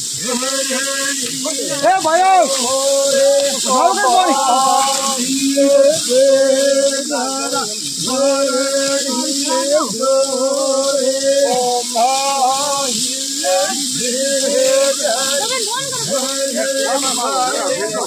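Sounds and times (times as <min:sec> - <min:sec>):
person singing long notes: 0:00.0 - 0:18.0
steady high hiss: 0:00.0 - 0:18.0.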